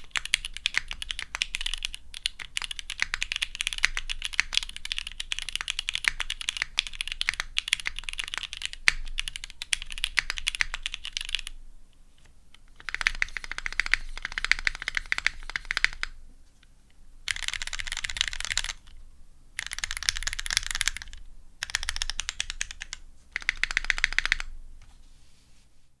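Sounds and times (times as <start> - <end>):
mechanical keyboard typing: 0.0 - 11.6, 12.6 - 16.2, 17.3 - 19.0, 19.6 - 24.6.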